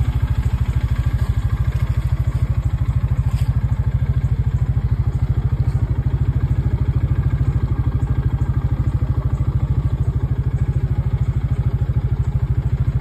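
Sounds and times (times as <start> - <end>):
utility vehicle engine idling: 0.0 - 13.0.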